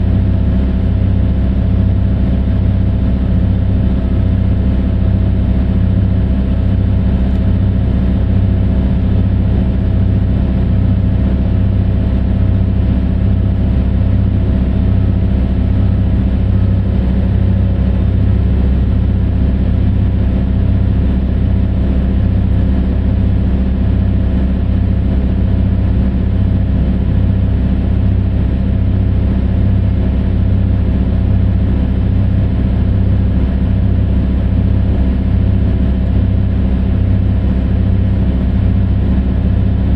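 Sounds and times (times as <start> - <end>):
large diesel engine droning: 0.0 - 39.9.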